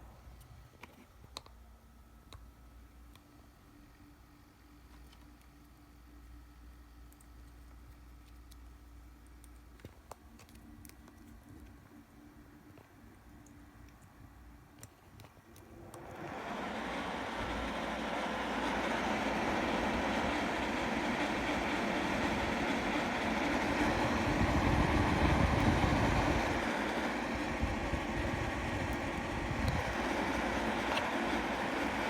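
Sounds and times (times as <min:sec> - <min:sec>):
computer fans whirring: 0:00.0 - 0:32.0.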